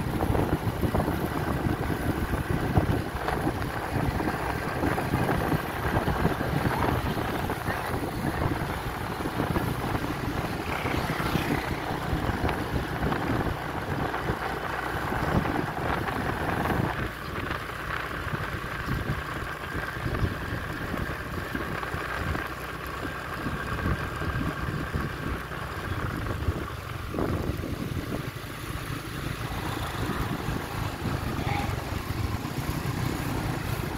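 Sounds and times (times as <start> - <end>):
vehicle engine and road noise: 0.0 - 33.9
wind rumbling on microphone: 0.0 - 33.9.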